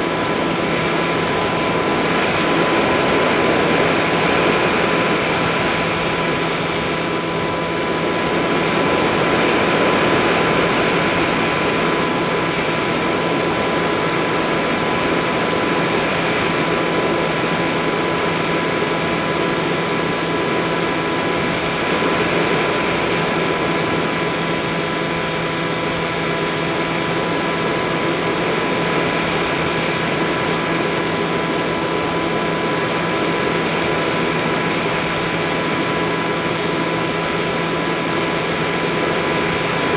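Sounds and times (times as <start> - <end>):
electric motor propeller whine: 0.0 - 39.9.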